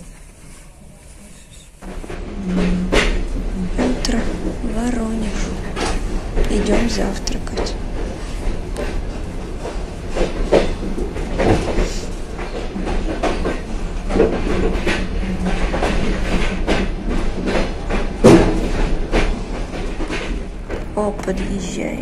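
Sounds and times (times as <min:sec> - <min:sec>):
train low rumble: 0:00.0 - 0:22.0
loud train clunk: 0:01.8 - 0:22.0
train wheels knocking over rail joints: 0:01.8 - 0:22.0.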